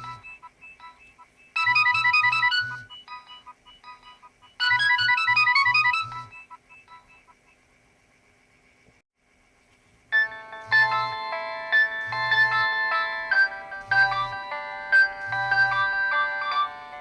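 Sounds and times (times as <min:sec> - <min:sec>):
polyphonic phone ringtone: 0:00.0 - 0:07.4, 0:10.2 - 0:17.0.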